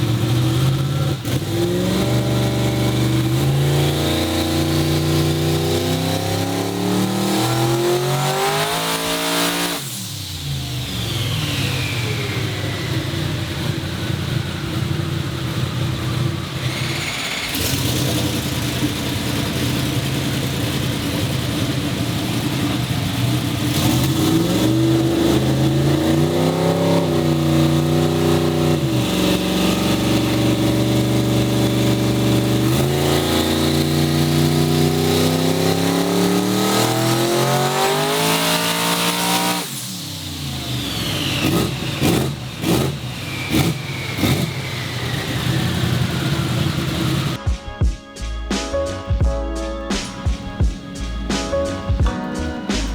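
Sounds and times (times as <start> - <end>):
engine revving at full throttle: 0.0 - 47.4.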